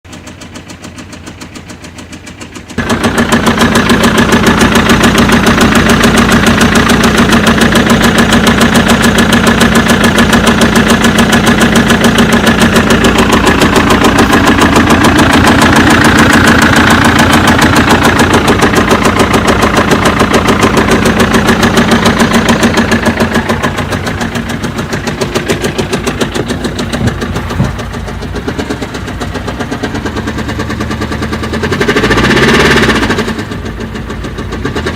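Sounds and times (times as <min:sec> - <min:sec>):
diesel engine knocking: 0:00.0 - 0:34.9.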